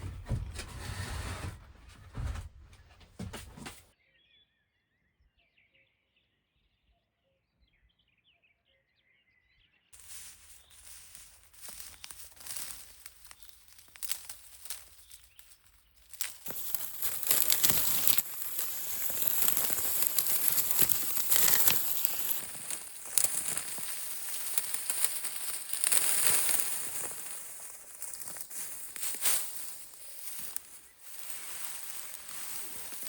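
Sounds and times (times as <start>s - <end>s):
rustling and crinkling: 0.0s - 3.9s, 10.0s - 33.0s.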